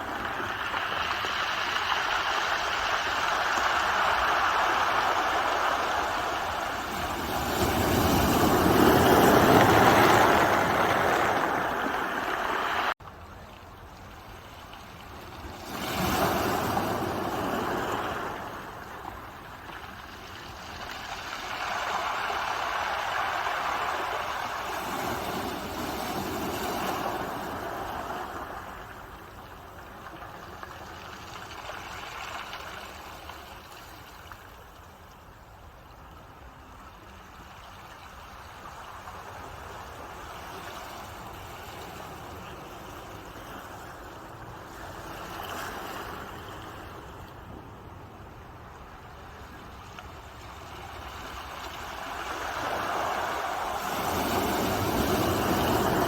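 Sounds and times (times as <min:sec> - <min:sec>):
ocean waves breaking: 0:00.0 - 0:13.0, 0:14.7 - 0:34.4, 0:37.5 - 0:56.0.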